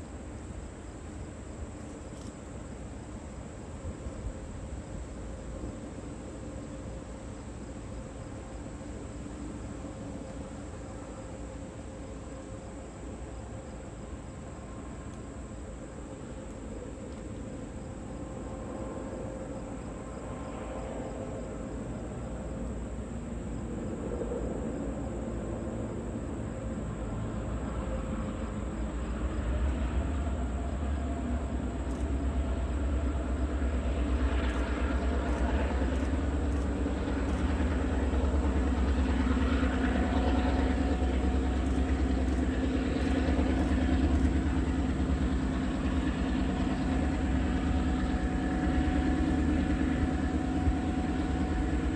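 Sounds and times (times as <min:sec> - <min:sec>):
diesel locomotive engine drone: 0:00.0 - 0:51.9.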